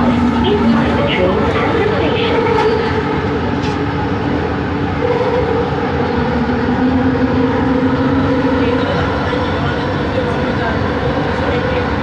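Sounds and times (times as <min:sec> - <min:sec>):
train motor whine: 0:00.0 - 0:11.8
train rolling noise: 0:00.0 - 0:12.0.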